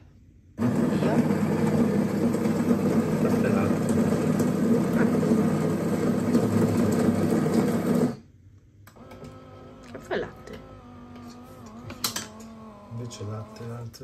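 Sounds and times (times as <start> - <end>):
quiet machine hum: 0.0 - 14.0
coffee machine buzzing: 0.6 - 8.3, 8.9 - 14.0.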